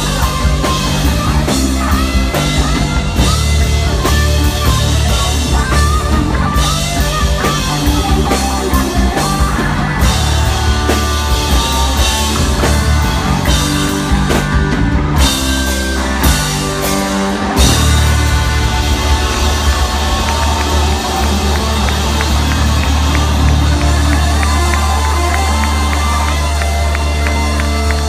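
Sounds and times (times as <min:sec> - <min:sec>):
distorted electric guitars: 0:00.0 - 0:28.0
driving drum kit: 0:00.0 - 0:28.0
live rock band playing: 0:00.0 - 0:28.0.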